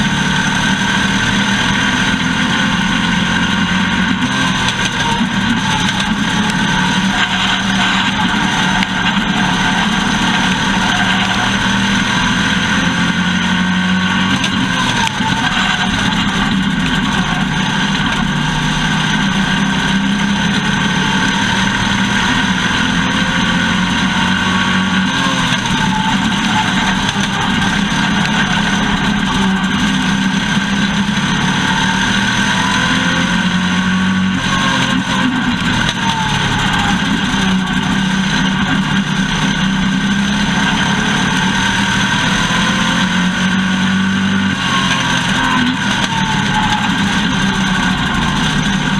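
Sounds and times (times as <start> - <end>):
race car engine running hard: 0.0 - 48.9.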